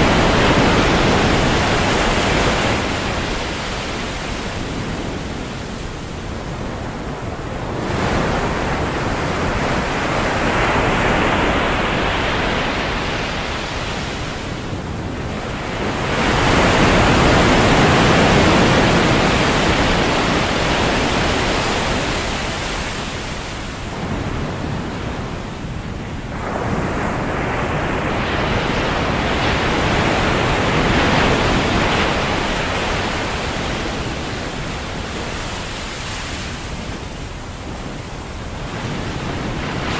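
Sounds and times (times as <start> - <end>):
waves washing on a beach: 0.0 - 39.9.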